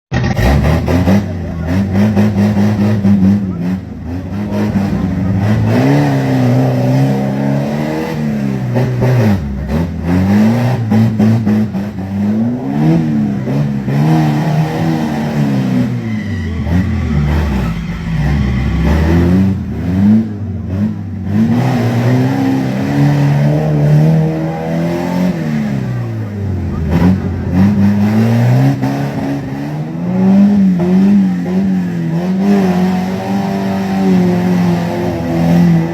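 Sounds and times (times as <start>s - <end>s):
vehicle engine revving: 0.1s - 35.9s.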